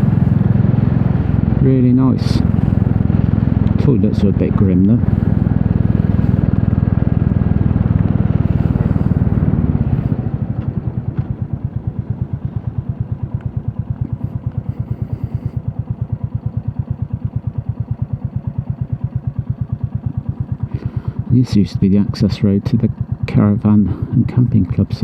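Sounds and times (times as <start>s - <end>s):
motorcycle engine thumping: 0.0s - 21.3s.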